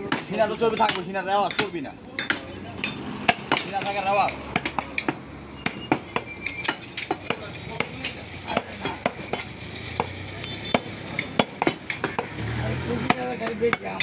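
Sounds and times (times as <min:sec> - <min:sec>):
cleavers striking chopping blocks: 0:00.0 - 0:14.0.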